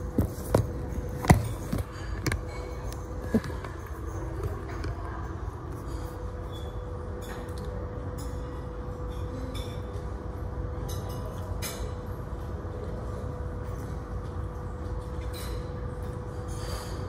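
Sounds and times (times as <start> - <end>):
constant hum: 0.0 - 17.0.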